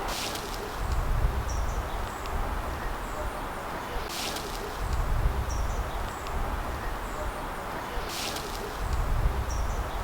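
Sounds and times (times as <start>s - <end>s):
rustle: 0.0s - 10.0s
wind rumbling on microphone: 0.0s - 10.0s.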